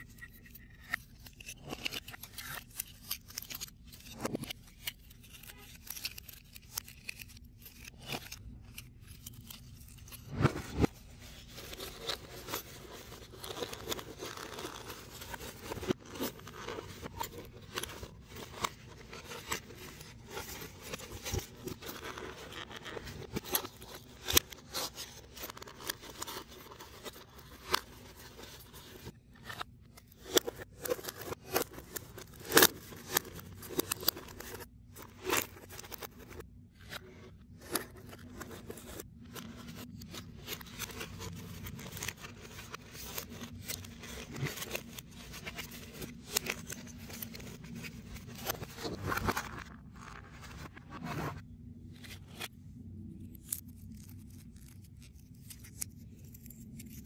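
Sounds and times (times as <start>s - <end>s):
foam puzzle pieces clicking and scraping: 0.0s - 51.4s, 53.3s - 57.0s.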